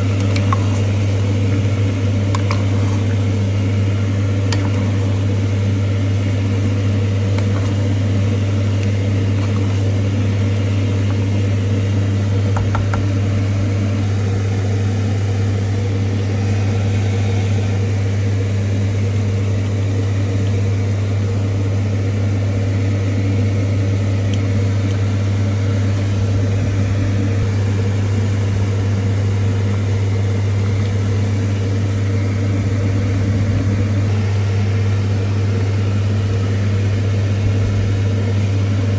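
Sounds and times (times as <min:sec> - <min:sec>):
motor electric hum: 0:00.0 - 0:38.9.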